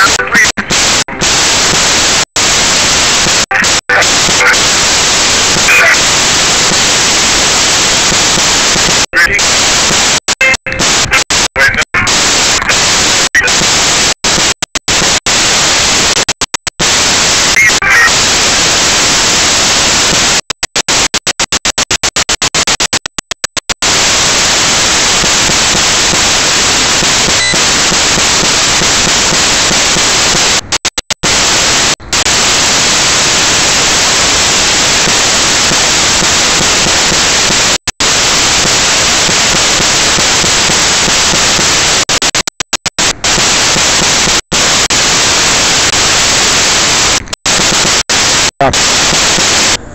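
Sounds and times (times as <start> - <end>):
static hiss: 0.0 - 49.9.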